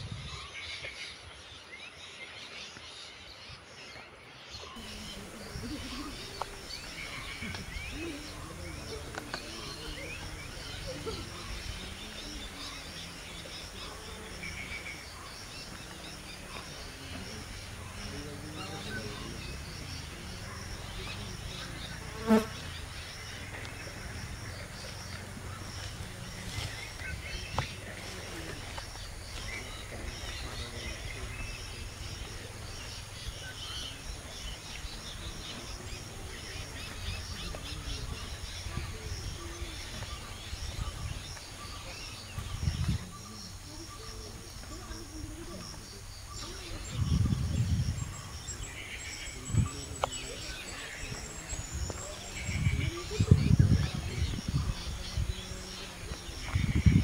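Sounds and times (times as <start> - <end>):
insects: 0.0 - 57.0
small birds chirping: 0.2 - 57.0.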